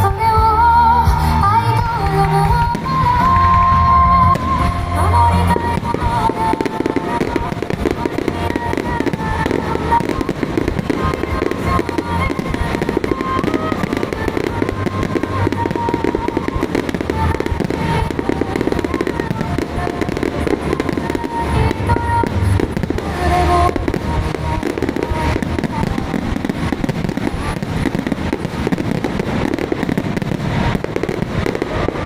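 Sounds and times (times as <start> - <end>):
fireworks bursting and crackling: 0.0 - 32.0
music: 0.0 - 32.0
deep firework booms: 2.6 - 32.0.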